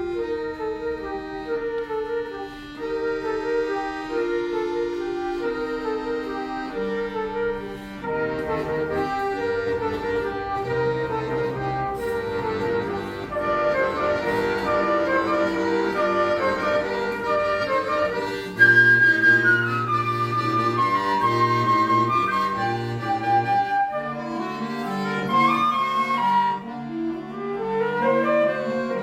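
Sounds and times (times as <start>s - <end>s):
button accordion music: 0.0s - 29.0s.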